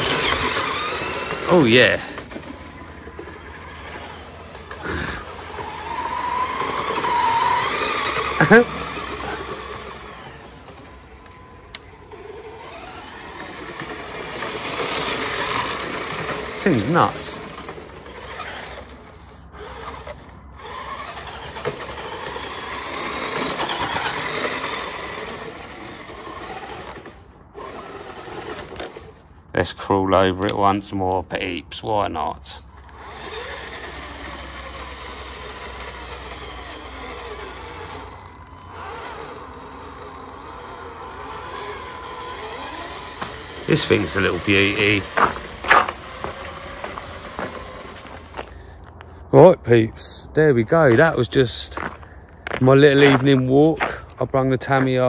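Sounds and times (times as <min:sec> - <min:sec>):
rc truck motor whine: 0:00.0 - 0:29.6, 0:32.6 - 0:49.8.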